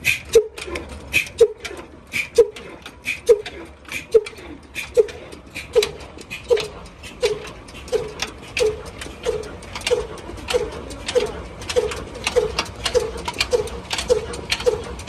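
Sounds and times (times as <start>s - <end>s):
single-cylinder diesel engine knocking: 0.0s - 15.0s.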